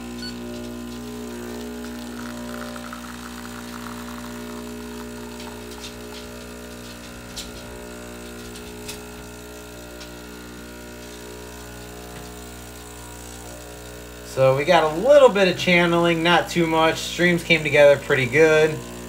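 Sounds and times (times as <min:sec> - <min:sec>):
espresso machine pump humming: 0:00.0 - 0:19.0.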